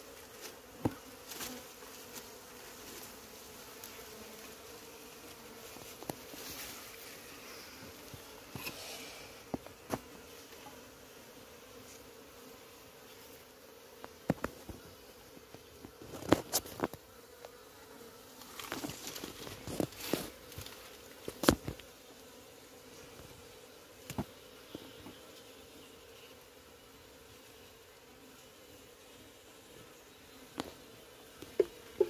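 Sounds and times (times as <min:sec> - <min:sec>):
honeybees humming: 0:00.0 - 0:32.0.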